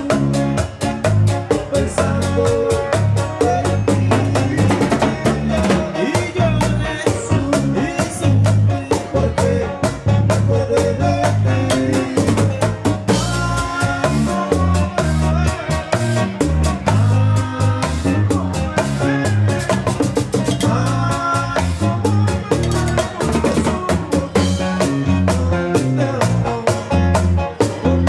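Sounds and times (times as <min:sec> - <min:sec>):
acoustic guitars: 0:00.0 - 0:28.0
bass line: 0:00.0 - 0:28.0
drums with snare and rim hits: 0:00.0 - 0:28.0
keyboard: 0:00.0 - 0:28.0.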